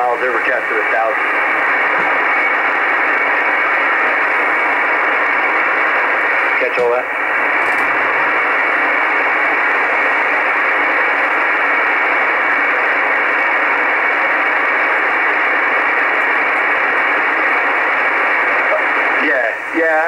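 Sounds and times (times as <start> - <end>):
shortwave radio static hiss: 0.0 - 20.0.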